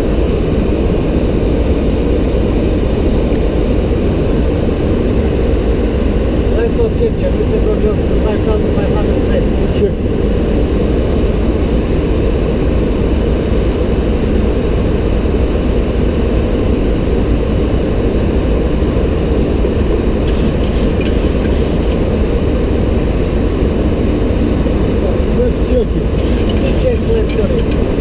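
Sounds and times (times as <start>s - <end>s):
airflow and engine rush: 0.0s - 28.0s.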